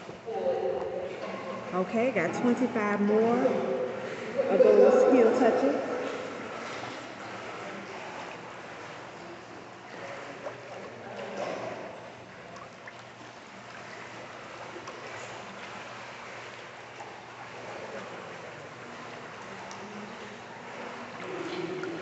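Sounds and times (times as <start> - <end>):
pool water sloshing and splashing: 0.0 - 22.0.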